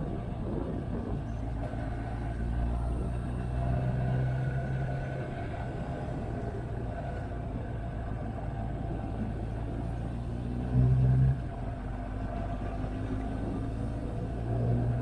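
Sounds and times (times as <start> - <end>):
rushing air and road noise: 0.0 - 15.0.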